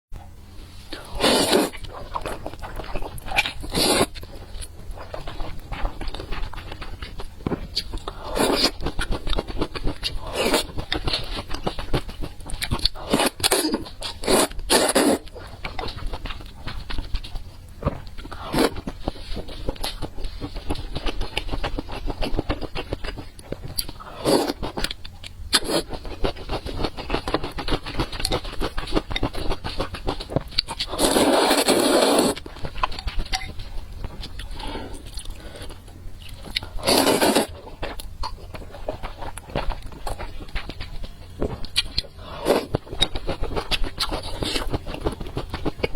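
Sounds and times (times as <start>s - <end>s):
crunching and chewing food: 0.2s - 45.9s.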